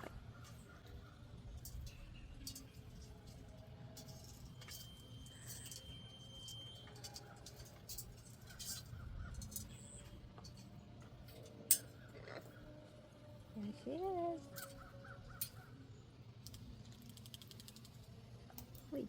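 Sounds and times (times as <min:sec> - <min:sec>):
macaws clicking and tapping: 0:00.0 - 0:04.8, 0:06.9 - 0:12.8, 0:13.7 - 0:15.8, 0:16.4 - 0:19.0.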